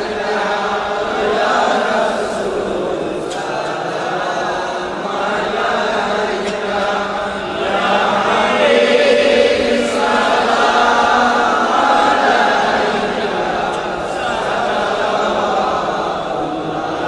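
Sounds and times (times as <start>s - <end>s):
voices chanting together: 0.0s - 17.0s.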